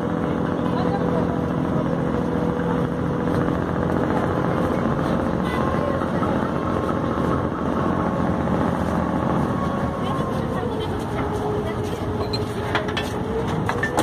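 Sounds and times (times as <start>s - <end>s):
ferry engine droning: 0.0s - 14.0s.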